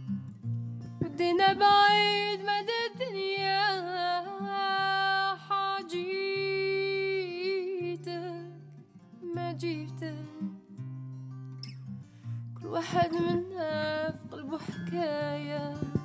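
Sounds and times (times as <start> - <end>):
acoustic guitar: 0.0 - 16.0
woman singing: 0.8 - 10.7, 12.6 - 16.0.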